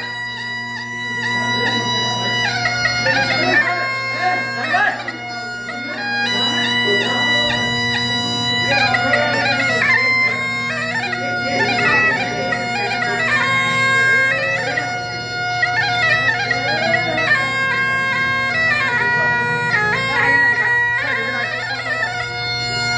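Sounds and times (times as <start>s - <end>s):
bagpipe melody over drone: 0.0s - 22.9s.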